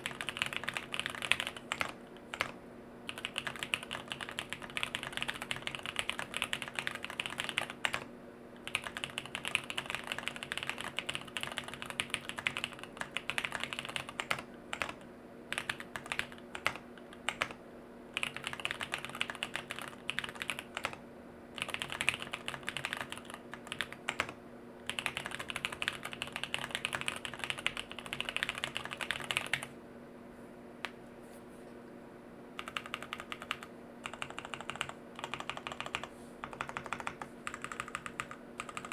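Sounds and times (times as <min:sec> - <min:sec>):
mechanical keyboard typing: 0:00.0 - 0:17.6, 0:18.2 - 0:21.0, 0:21.6 - 0:29.7, 0:32.6 - 0:38.9.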